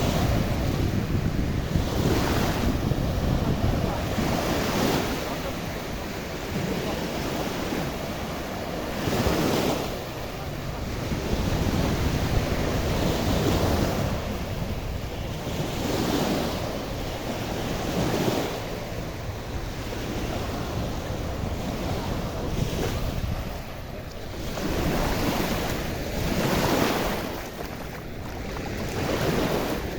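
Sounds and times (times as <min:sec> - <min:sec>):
surf washing onto beach: 0:00.0 - 0:29.9
wind rumbling on microphone: 0:00.0 - 0:29.9.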